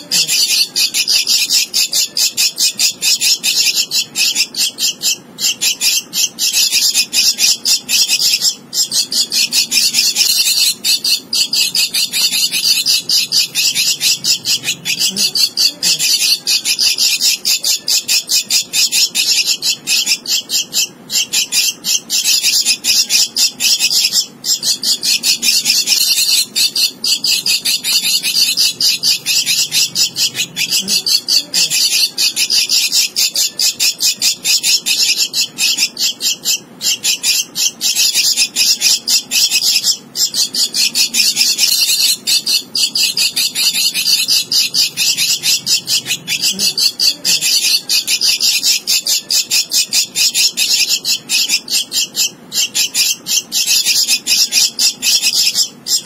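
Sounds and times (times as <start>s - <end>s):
nestling begging calls: 0.0s - 56.0s.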